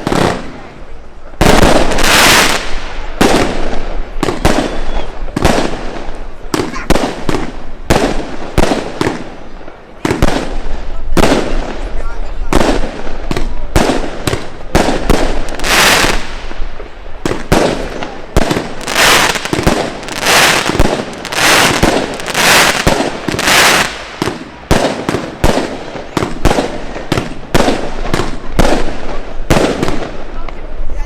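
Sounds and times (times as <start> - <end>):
firework crackling: 0.0 - 31.0
firework shots firing: 1.4 - 30.7.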